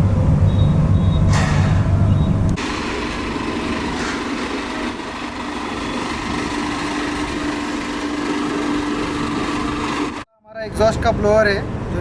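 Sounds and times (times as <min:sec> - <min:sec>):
strong low machine hum: 0:00.0 - 0:10.2
machinery whirring: 0:00.5 - 0:10.3.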